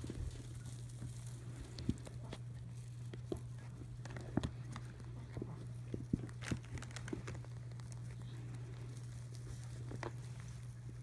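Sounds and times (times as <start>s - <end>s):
rabbits munching hay: 0.0s - 11.0s
steady low hum: 0.0s - 11.0s.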